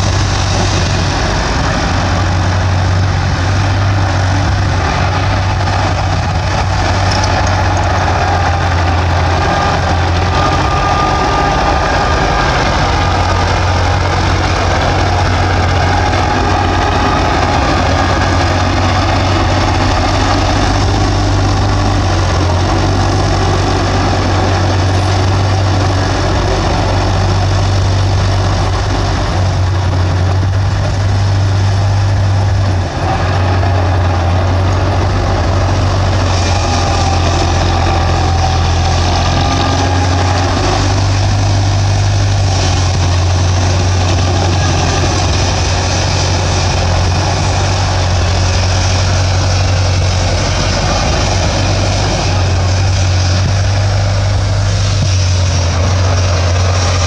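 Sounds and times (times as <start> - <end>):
bulldozer engine droning: 0.0 - 57.0.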